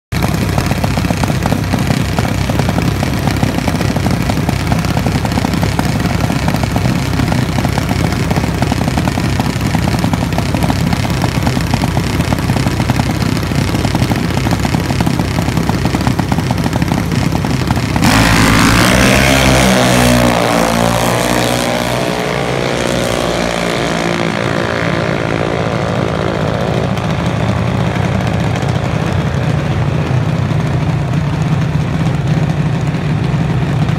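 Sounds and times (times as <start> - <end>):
dragster engine: 0.1 - 33.9.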